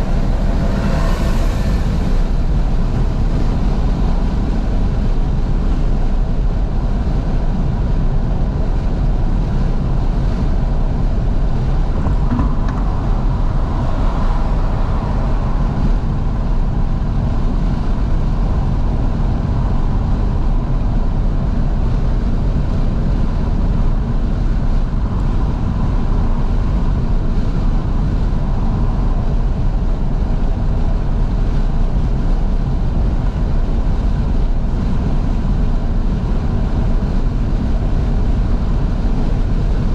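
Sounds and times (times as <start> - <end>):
car engine running: 0.0 - 39.9
wind and road noise: 0.0 - 39.9.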